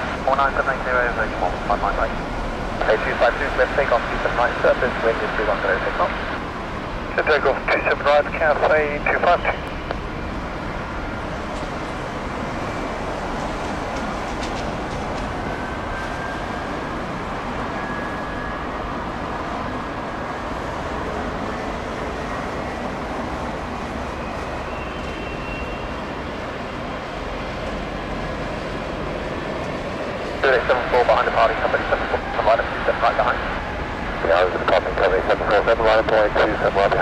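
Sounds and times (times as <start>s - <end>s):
distant jet engines roaring: 0.0s - 37.0s.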